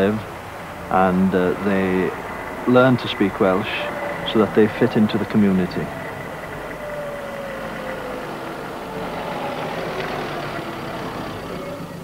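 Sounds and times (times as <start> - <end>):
van driving past: 0.0 - 12.0.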